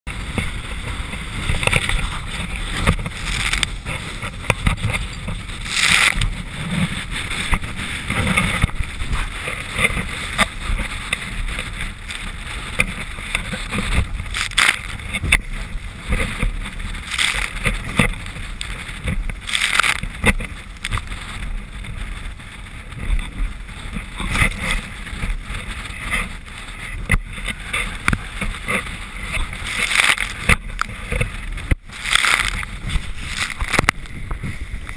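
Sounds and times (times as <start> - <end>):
boat engine and wind rush: 0.1 - 34.9
hull slapping on waves: 0.1 - 34.9.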